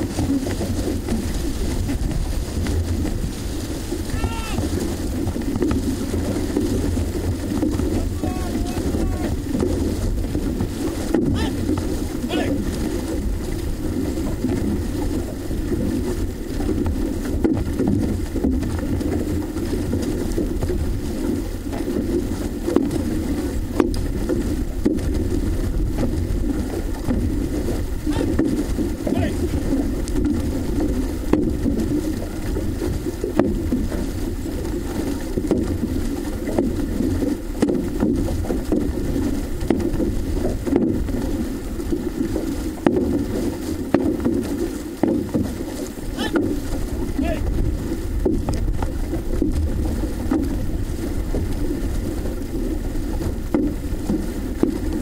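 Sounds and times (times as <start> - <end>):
paddle strokes knocking: 0.0 - 55.0
rush of water and wind: 0.0 - 55.0.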